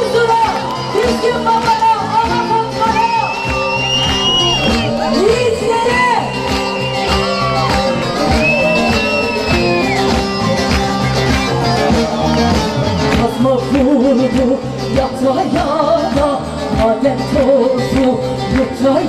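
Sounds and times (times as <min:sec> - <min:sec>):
instrumental song with sliding melody: 0:01.2 - 0:19.0.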